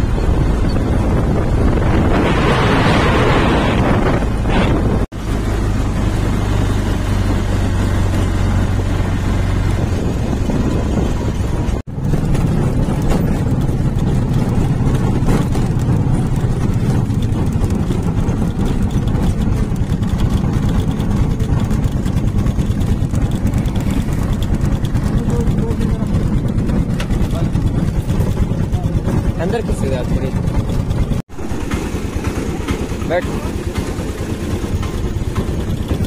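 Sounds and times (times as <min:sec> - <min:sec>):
auto-rickshaw engine running: 0:00.0 - 0:36.0
wind rumble on microphone: 0:00.0 - 0:36.0.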